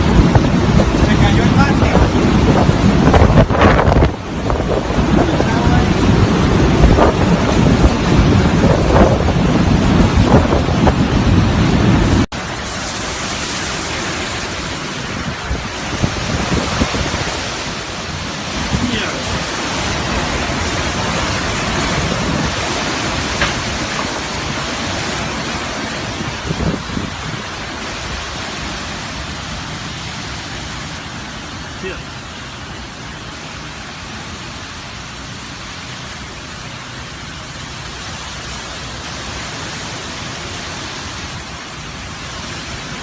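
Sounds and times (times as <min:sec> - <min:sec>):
heavy wind buffeting microphone: 0:00.0 - 0:43.0
wind-driven rain hissing: 0:00.0 - 0:43.0.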